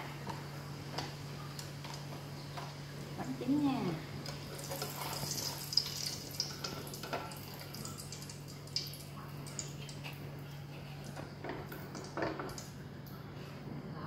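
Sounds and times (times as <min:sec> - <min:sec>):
dough deep-frying in hot oil: 0:00.0 - 0:12.8.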